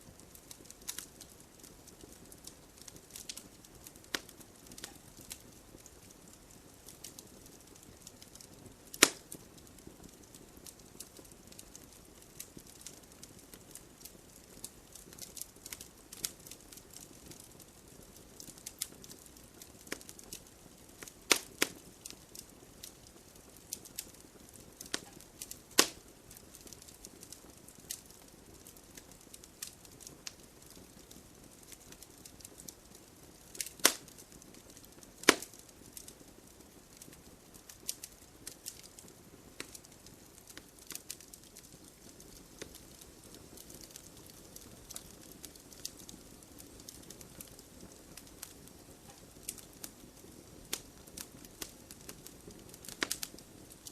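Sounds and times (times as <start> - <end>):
fire crackling: 0.0 - 53.9
low hiss of flame: 0.0 - 53.9
sharp pops of burning wood: 0.1 - 53.9.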